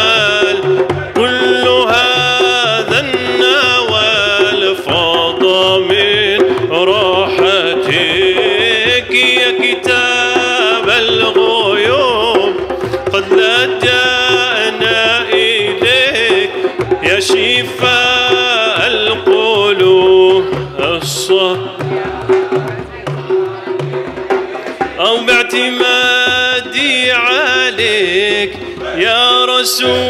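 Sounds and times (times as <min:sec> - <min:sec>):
person singing devotional song: 0:00.0 - 0:30.0
soft drum beats: 0:00.0 - 0:30.0.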